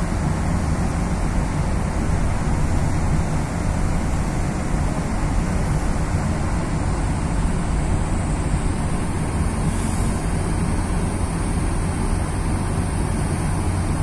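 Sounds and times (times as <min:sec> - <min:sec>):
ship engines rumbling: 0:00.0 - 0:14.0.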